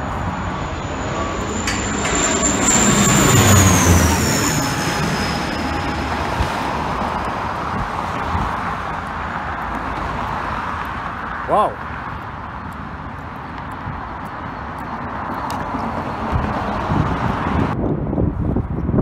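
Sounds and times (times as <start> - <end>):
propeller plane passing overhead: 0.0 - 17.8
highway traffic: 0.0 - 19.0.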